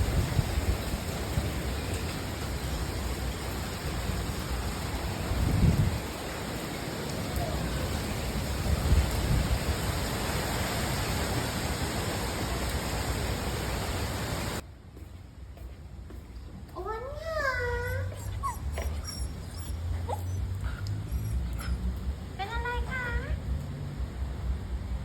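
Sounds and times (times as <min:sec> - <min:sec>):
heavy rain hissing: 0:00.0 - 0:14.6, 0:17.4 - 0:25.0.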